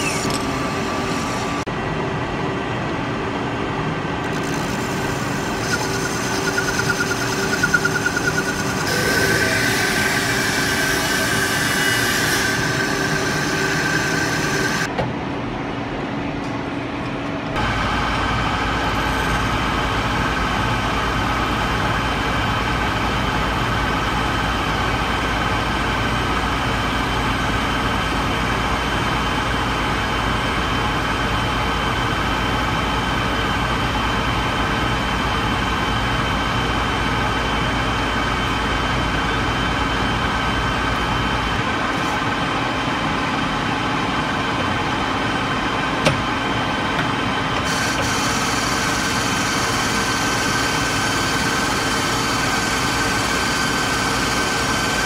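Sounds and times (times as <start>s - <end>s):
lathe whine with cutting noise: 0.0s - 1.7s, 4.1s - 14.9s, 17.6s - 55.0s.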